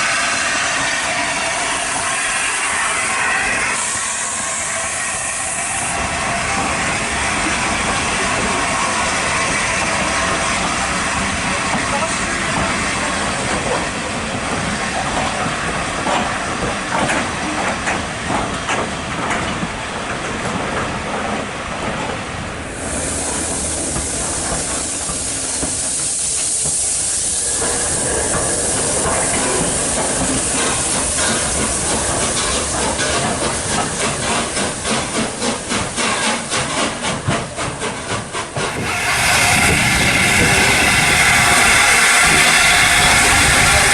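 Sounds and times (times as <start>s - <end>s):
high hiss of escaping steam: 0.0s - 16.9s, 22.7s - 36.6s, 38.6s - 43.9s
rapid locomotive exhaust beats: 0.0s - 43.9s
steam locomotive working: 0.0s - 43.9s.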